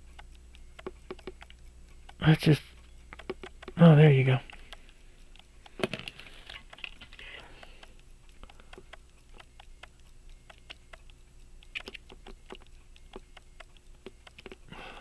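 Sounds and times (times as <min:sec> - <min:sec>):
tweezers clicking on tiny parts: 0:00.0 - 0:15.0.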